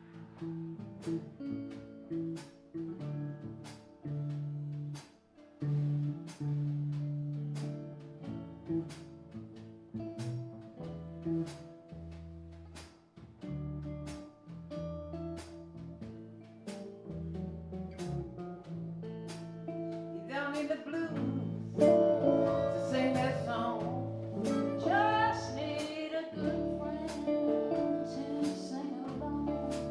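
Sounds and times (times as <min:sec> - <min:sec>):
blues band playing: 0:00.0 - 0:29.9.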